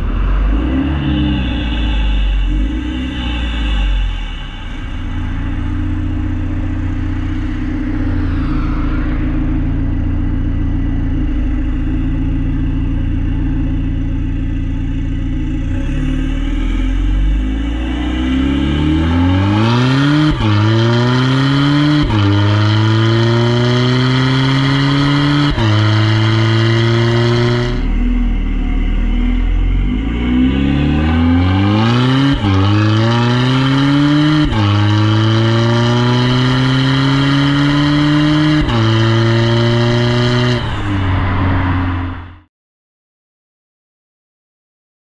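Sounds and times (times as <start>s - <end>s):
car exhaust revving through upshifts: 0.0s - 42.4s.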